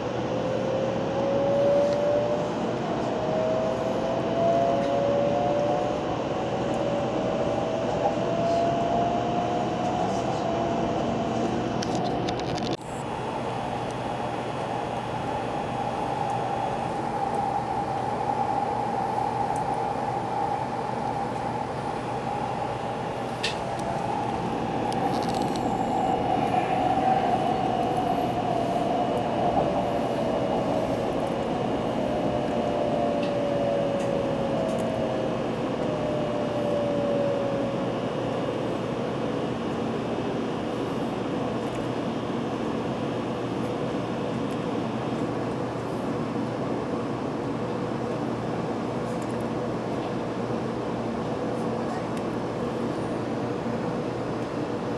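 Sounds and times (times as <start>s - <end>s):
train interior rumble: 0.0s - 54.9s.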